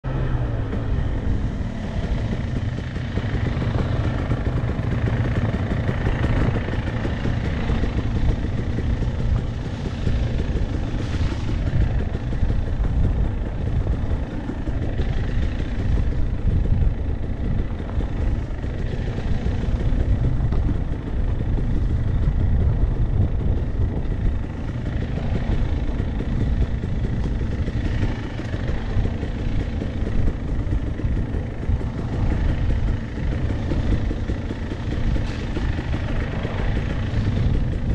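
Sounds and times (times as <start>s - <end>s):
dirt bike engine running: 0.0s - 37.9s.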